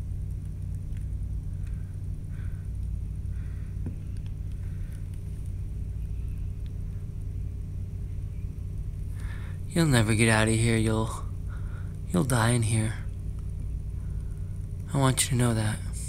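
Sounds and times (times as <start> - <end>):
mechanical hum and rumble: 0.0 - 16.0.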